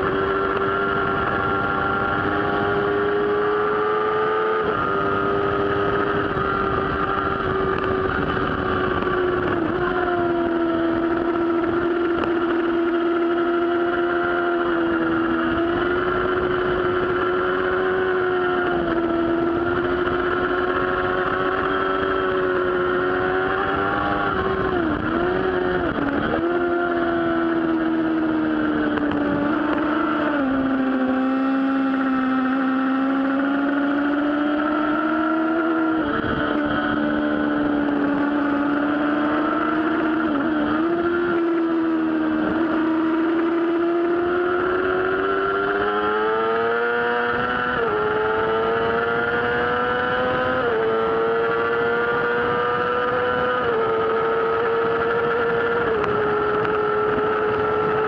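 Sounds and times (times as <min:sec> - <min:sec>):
motorcycle engine revving: 0:00.0 - 0:58.0
wind rush: 0:04.6 - 0:58.0.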